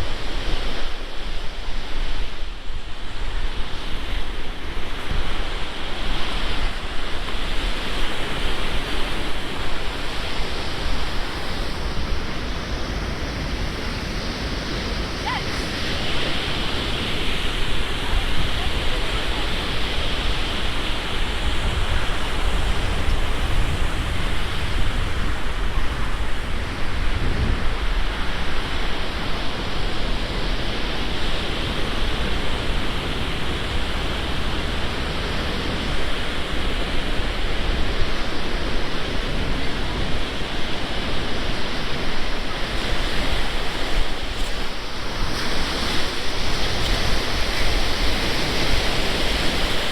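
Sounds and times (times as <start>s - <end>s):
storm surf washing against seawall: 0.0s - 49.9s
wind blowing over microphone: 0.0s - 49.9s.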